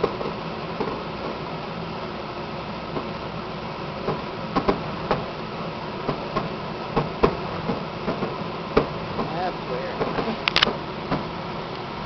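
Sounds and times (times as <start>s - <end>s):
distant fireworks popping: 0.0s - 1.7s, 2.8s - 3.3s, 4.0s - 11.9s.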